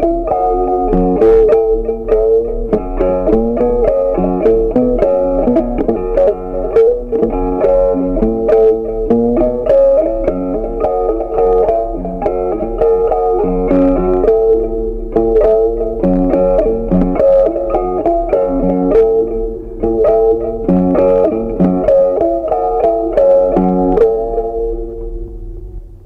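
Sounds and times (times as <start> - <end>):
plucked guitar music: 0.0 - 26.0.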